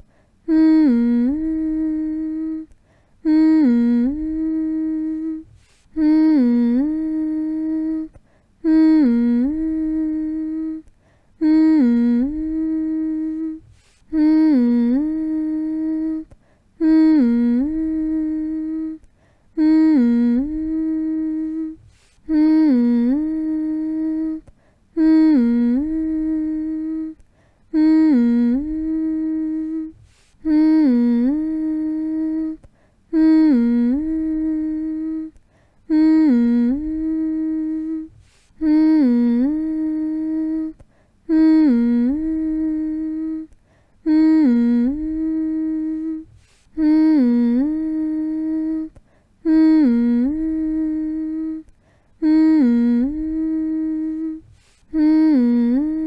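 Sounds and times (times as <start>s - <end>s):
person humming: 0.0s - 56.0s.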